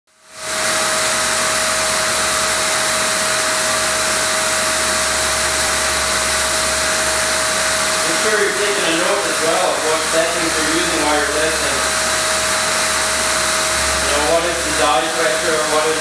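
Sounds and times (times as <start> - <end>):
pump and motor running: 0.1 - 16.0.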